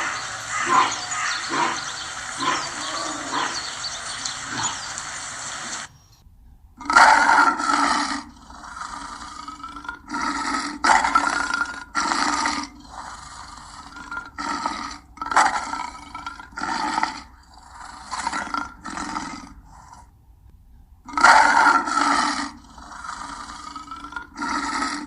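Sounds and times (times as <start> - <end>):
lion roaring: 0.0 - 5.9, 6.8 - 20.1, 21.1 - 25.0.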